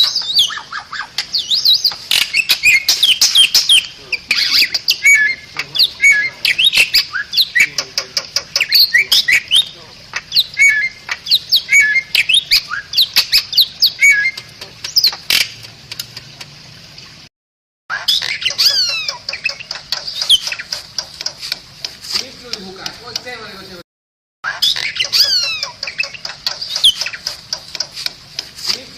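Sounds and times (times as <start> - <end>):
bird singing squawks and chirps: 0.0 - 15.6, 17.9 - 21.4, 24.5 - 28.9.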